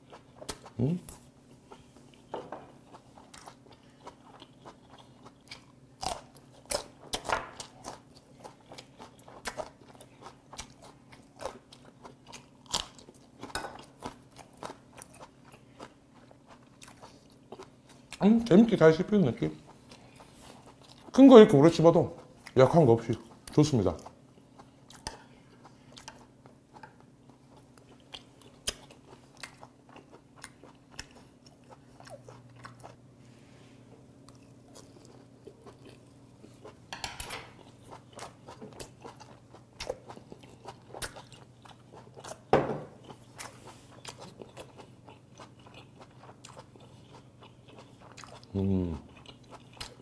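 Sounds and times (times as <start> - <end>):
chewing with wet clicks and smacks: 2.9 - 18.3, 19.4 - 33.0, 34.2 - 36.8, 37.5 - 50.0.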